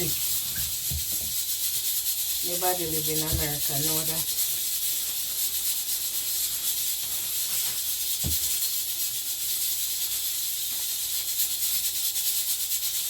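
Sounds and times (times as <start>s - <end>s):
steady high hiss: 0.0s - 12.9s.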